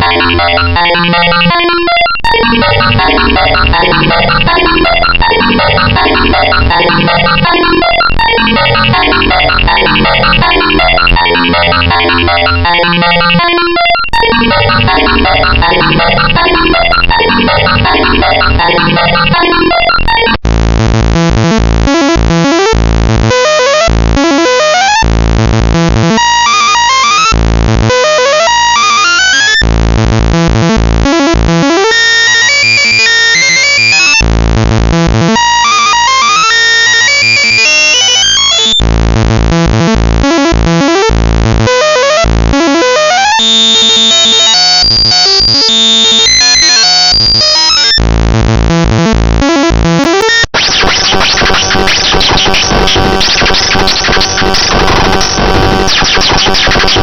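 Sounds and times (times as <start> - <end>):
harsh computer-generated noise music: 0.0 - 57.0.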